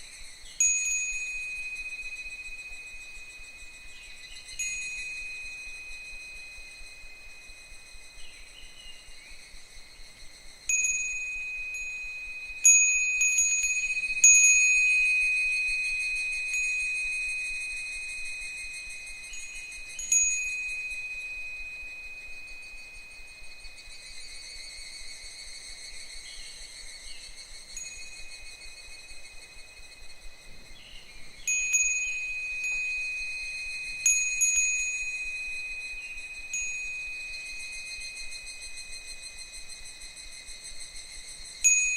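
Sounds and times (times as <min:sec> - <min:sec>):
wind chime ringing: 0:00.0 - 0:08.7, 0:10.7 - 0:41.9.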